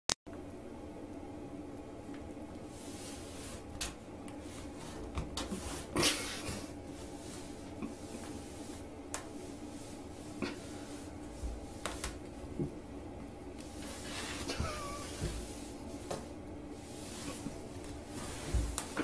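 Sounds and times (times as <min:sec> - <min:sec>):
steady low hum: 0:00.3 - 0:19.0
rug scraping over tile floor: 0:02.7 - 0:12.7, 0:13.6 - 0:19.0.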